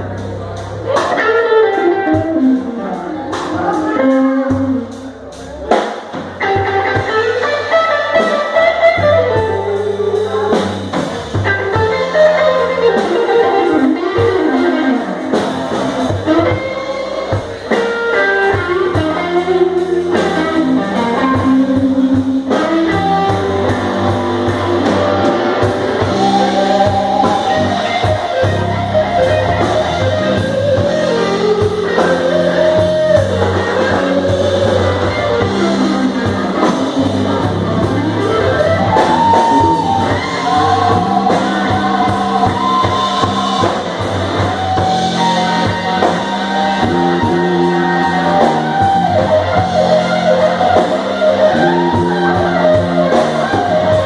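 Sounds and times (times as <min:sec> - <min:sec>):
bass guitar: 0:00.0 - 0:54.0
drum kit: 0:00.0 - 0:54.0
electric guitar melody: 0:00.0 - 0:54.0.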